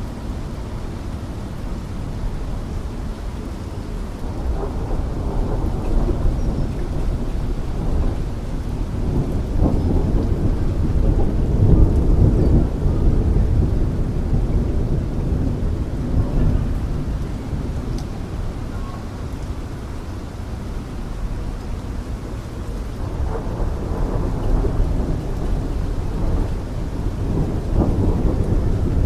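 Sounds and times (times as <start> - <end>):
steady rain: 0.0 - 29.0
thunder rumbling: 1.7 - 29.0.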